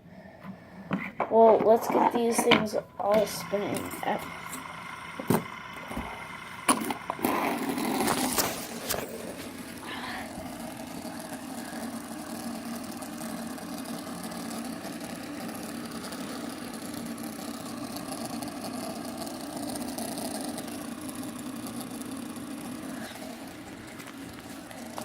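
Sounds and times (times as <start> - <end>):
fidget spinners whirring: 0.8 - 25.0.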